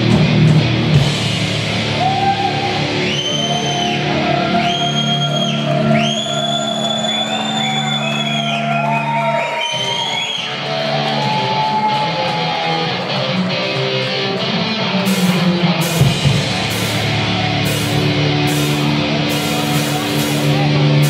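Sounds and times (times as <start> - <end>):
electric guitars bending notes: 0.0 - 21.0
rock band playing: 0.0 - 21.0.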